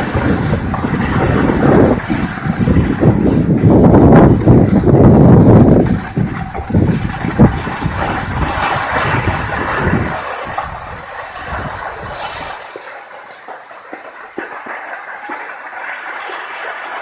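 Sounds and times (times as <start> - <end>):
snowboard scraping over snow: 0.0 - 17.0.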